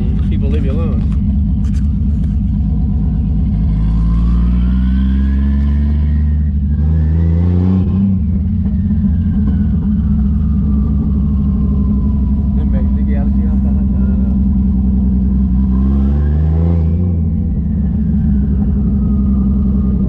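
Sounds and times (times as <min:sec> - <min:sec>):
turbocharged engine accelerating: 0:00.0 - 0:20.0.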